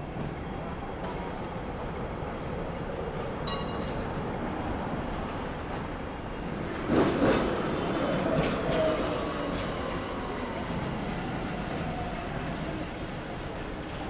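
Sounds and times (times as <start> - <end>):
city traffic noise: 0.0 - 14.0
tram wheels rumbling on rails: 0.0 - 14.0.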